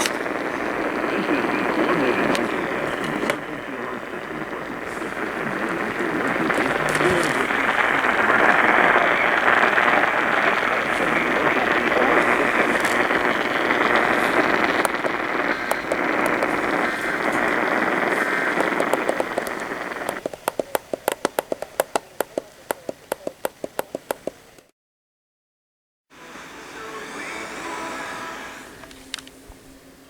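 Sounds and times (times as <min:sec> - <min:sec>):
loud static hiss: 0:00.0 - 0:24.7, 0:26.2 - 0:30.0
rapid regular clicking: 0:00.0 - 0:24.7.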